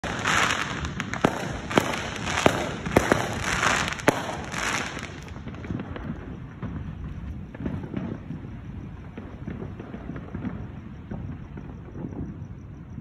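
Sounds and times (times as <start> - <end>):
fireworks bangs: 0.0 - 13.0
fireworks crackling hiss: 0.0 - 13.0.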